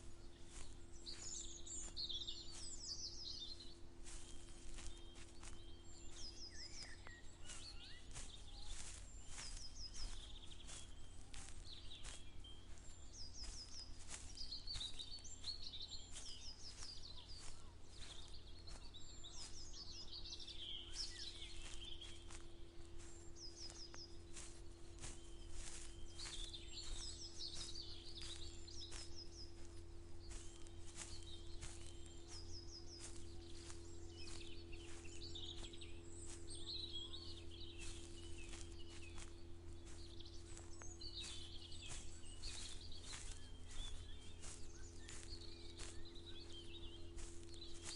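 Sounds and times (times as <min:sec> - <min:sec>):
footsteps walking: 0:00.0 - 0:47.9
songbirds singing: 0:00.0 - 0:47.9.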